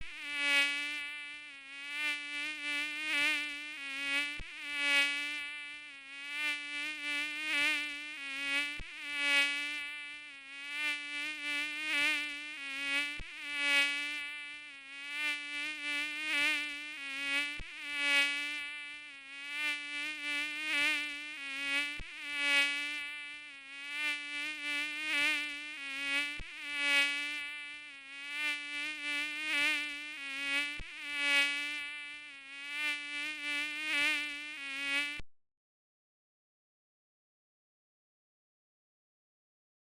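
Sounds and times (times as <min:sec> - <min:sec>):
mosquito wingbeat whine: 0:00.0 - 0:35.2.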